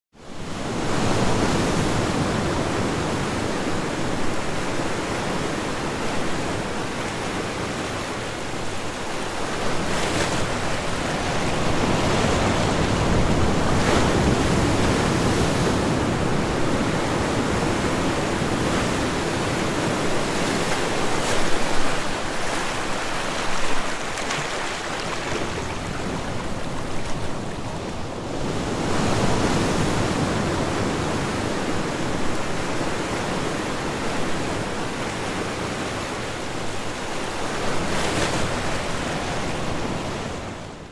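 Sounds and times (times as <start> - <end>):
waves washing over sand: 0.4 - 40.7.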